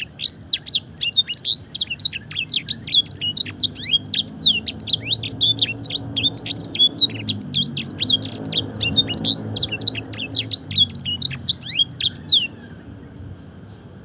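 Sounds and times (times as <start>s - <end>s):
canary singing: 0.0s - 12.9s.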